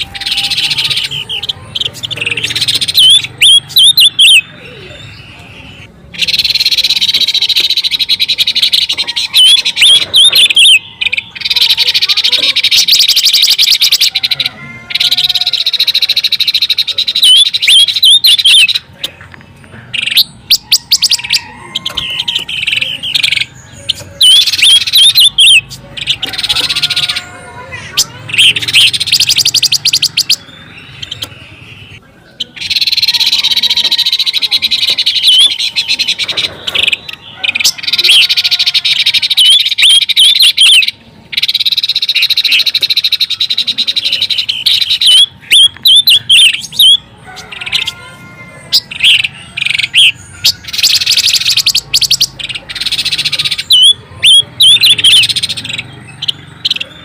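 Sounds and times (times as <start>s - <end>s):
bird chattering trills: 0.0s - 57.0s.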